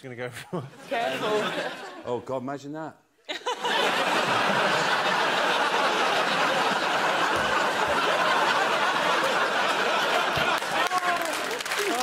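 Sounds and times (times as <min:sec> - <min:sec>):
studio audience laughing: 0:00.6 - 0:02.1, 0:03.3 - 0:12.0.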